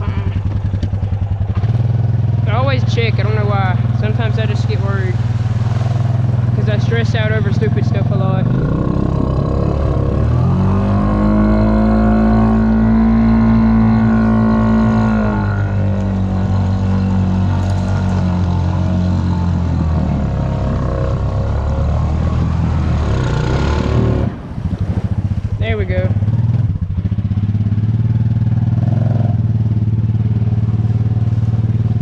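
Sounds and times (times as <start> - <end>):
atv engine revving under load: 0.0 - 32.0.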